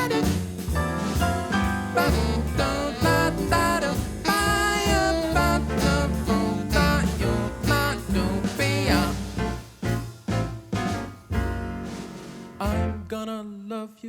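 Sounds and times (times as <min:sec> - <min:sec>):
drums: 0:00.0 - 0:13.2
walking bass: 0:00.0 - 0:13.2.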